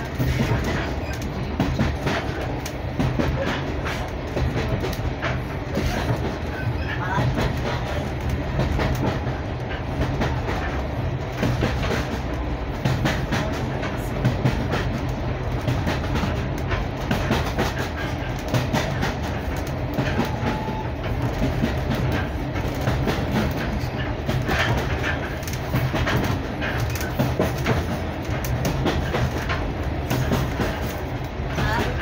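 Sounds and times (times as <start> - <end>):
train rumbling: 0.0 - 32.0
wheels clicking over rail joints: 0.0 - 32.0.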